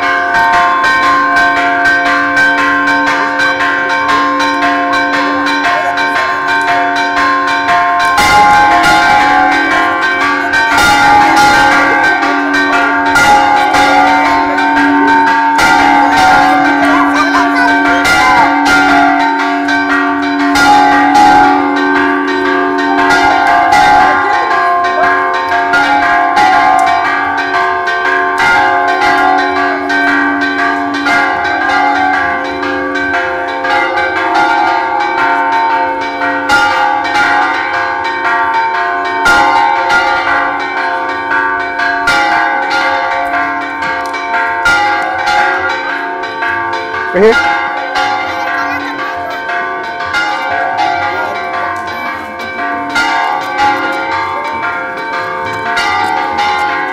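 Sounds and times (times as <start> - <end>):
church bells pealing: 0.0 - 56.9.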